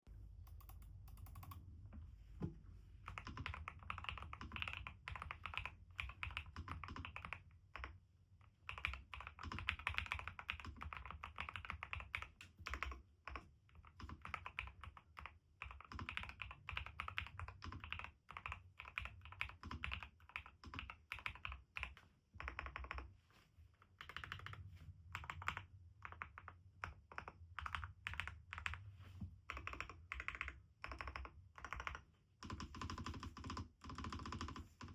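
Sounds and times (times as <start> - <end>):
mechanical keyboard typing: 0.5 - 1.6, 3.1 - 23.0, 24.0 - 28.8, 29.4 - 34.9.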